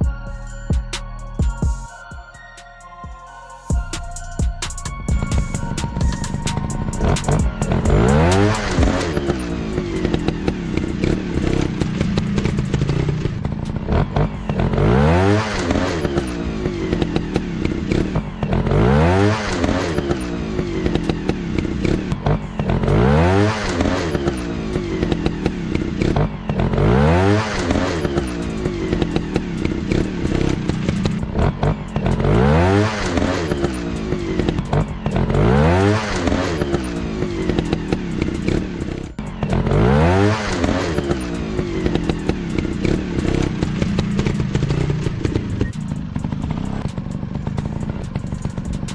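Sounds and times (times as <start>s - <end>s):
dirt bike engines revving: 5.2s - 48.9s.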